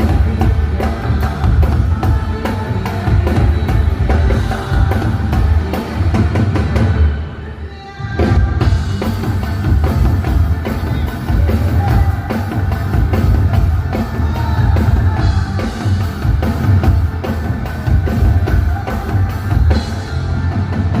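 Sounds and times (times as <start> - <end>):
live band over loudspeakers: 0.0 - 21.0.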